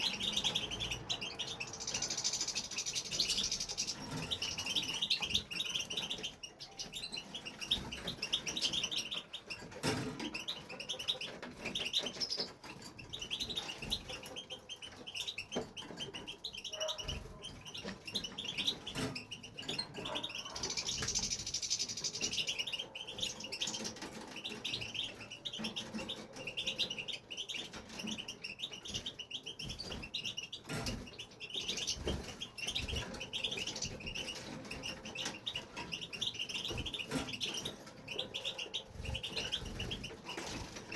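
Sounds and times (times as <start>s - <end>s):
finch twittering song: 0.0s - 40.9s.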